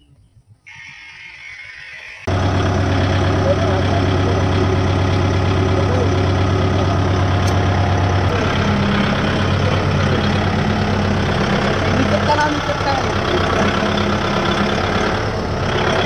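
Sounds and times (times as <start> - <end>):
tractor diesel engine running: 2.2 - 16.0.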